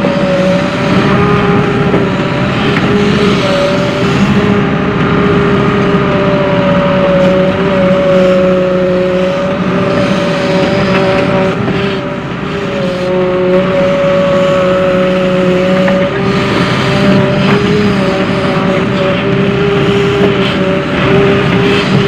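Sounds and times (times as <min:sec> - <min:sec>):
diesel engine running under load: 0:00.0 - 0:22.0
steady whine: 0:00.0 - 0:22.0.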